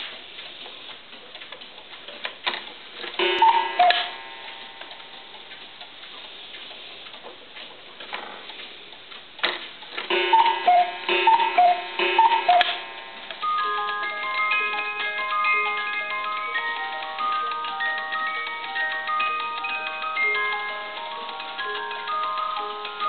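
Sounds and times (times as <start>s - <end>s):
clock mechanical clatter: 0.0s - 23.0s
clock ticking: 0.0s - 23.0s.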